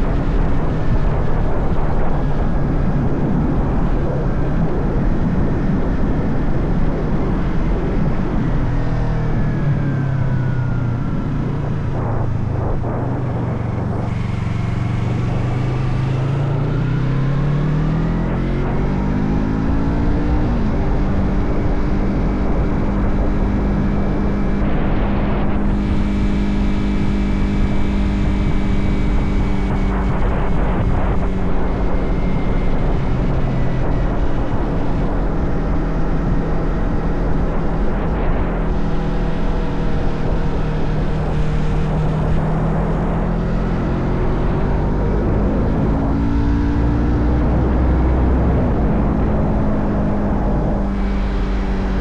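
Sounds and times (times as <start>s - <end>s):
motorcycle engine accelerating: 0.0s - 52.0s
wind rush: 0.0s - 52.0s.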